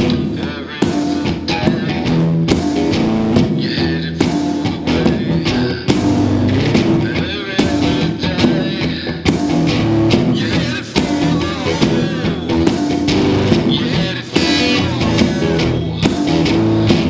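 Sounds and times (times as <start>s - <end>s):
blues song with guitars: 0.0s - 17.0s.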